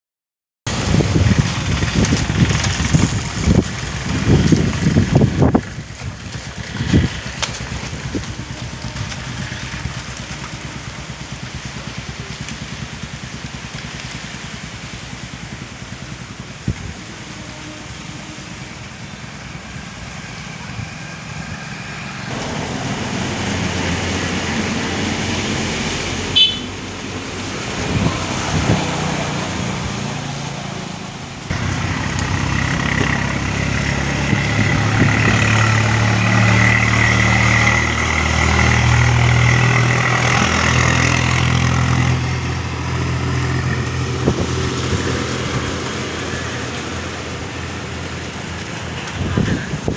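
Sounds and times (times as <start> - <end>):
road noise: 0.6 - 49.9
vehicle engine hum: 0.7 - 49.9.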